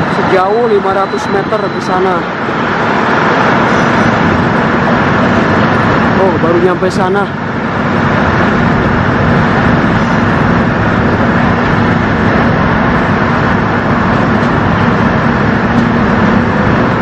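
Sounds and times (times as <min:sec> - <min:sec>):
low engine hum: 0:00.0 - 0:17.0
road traffic noise: 0:00.0 - 0:17.0.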